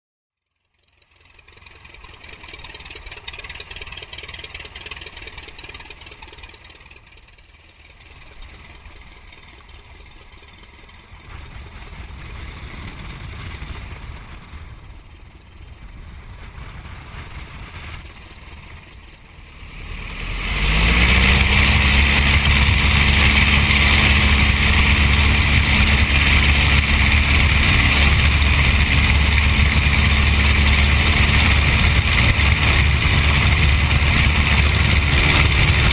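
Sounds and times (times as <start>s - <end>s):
biplane engine running: 0.5s - 35.9s.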